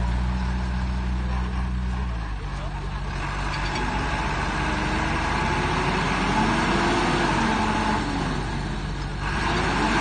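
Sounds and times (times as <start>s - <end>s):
heavy machinery diesel engine: 0.0s - 10.0s.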